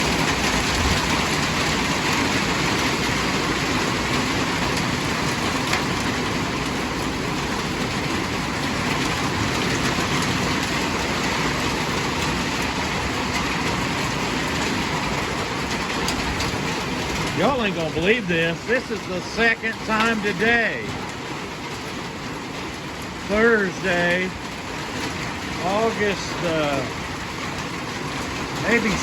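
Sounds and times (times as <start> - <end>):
heavy rain: 0.0 - 29.0
strong wind: 0.0 - 29.0.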